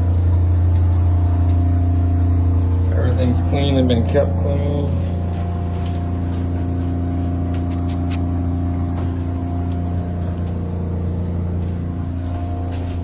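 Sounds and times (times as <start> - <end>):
ice maker humming: 0.0 - 13.0.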